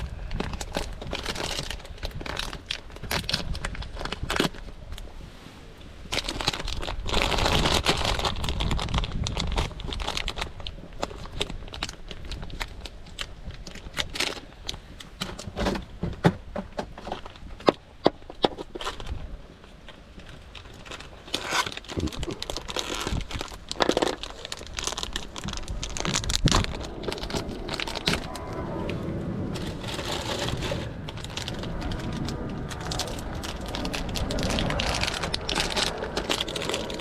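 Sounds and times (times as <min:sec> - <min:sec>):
food packaging crinkling: 0:00.2 - 0:05.0, 0:06.1 - 0:14.8, 0:18.4 - 0:28.7, 0:29.5 - 0:37.0.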